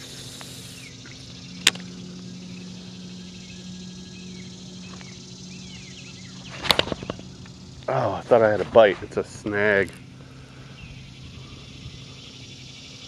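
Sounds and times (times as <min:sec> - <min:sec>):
faint chirps: 0:00.0 - 0:08.5, 0:09.2 - 0:13.0
steady low hum: 0:00.0 - 0:13.0.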